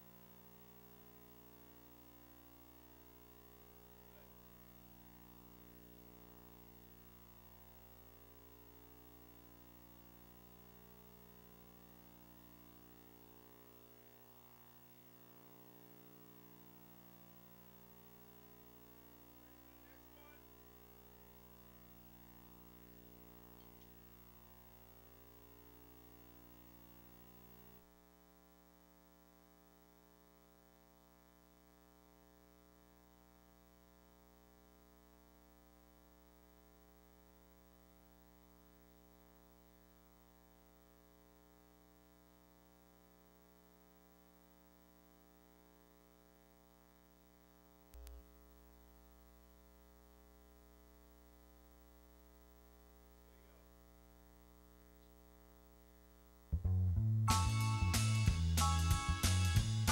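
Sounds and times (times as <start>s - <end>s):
faint electrical hum: 0.0s - 56.8s.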